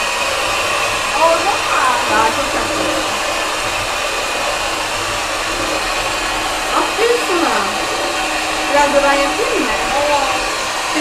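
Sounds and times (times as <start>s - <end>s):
electric mixer whisking: 0.0s - 11.0s.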